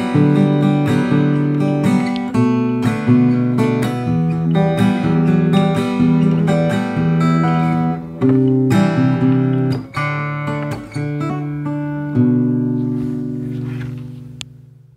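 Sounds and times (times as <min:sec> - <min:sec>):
acoustic guitar chords: 0:00.0 - 0:14.9.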